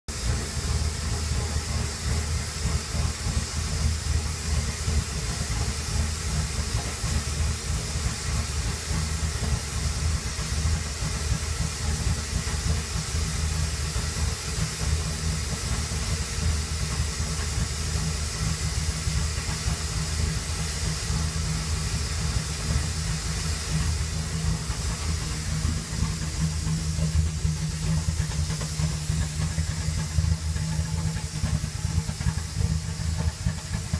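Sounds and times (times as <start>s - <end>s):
car engine idling rough: 0.0s - 33.9s
exhaust hiss: 0.1s - 33.9s.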